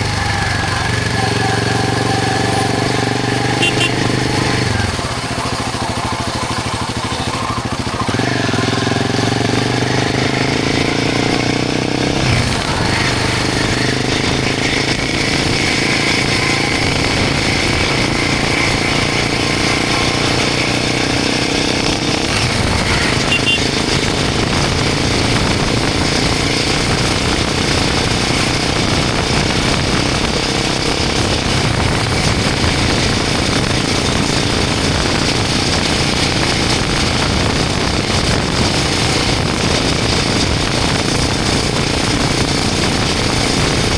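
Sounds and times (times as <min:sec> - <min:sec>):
motorcycle engine deep exhaust: 0:00.0 - 0:43.9.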